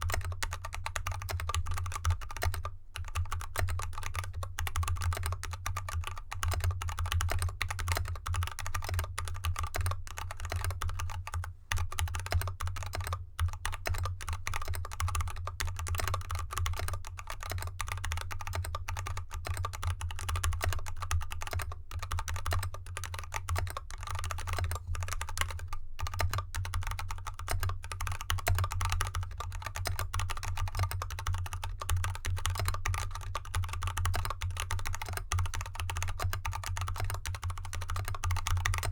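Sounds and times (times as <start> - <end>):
typing on a mechanical keyboard: 0.0 - 38.9.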